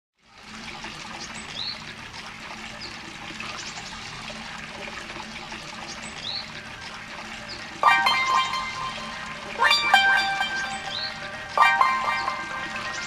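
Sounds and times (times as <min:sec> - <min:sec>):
water trickling into bath: 0:00.4 - 0:13.0.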